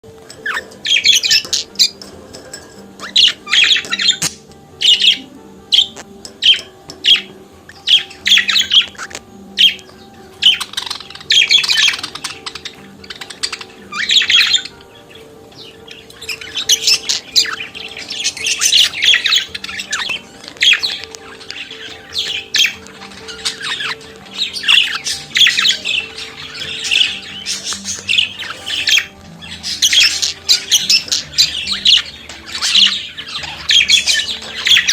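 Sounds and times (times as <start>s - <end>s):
budgerigars warbling and chattering: 0.0s - 34.9s.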